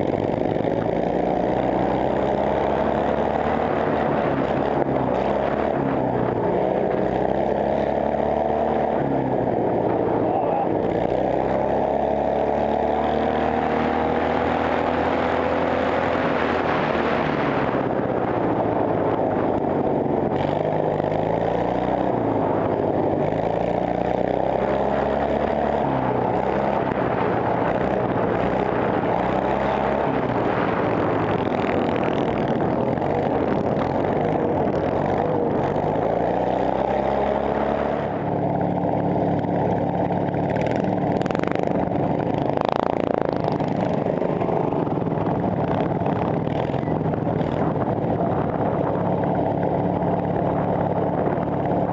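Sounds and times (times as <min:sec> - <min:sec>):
lawn mower engine revving: 0:00.0 - 0:51.9.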